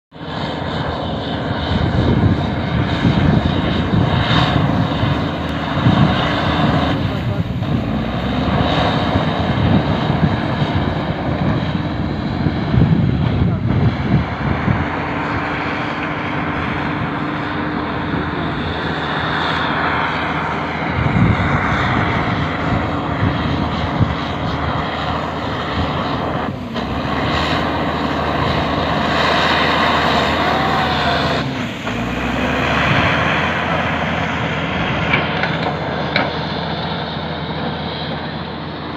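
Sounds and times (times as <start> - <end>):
bulldozer diesel engine under load: 0.1 - 38.9.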